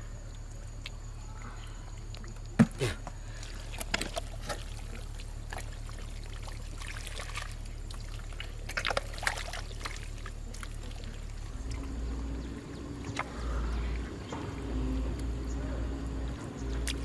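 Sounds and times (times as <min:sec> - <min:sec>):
steady low hum: 0:00.0 - 0:17.0
water trickling and splashing: 0:00.2 - 0:17.0.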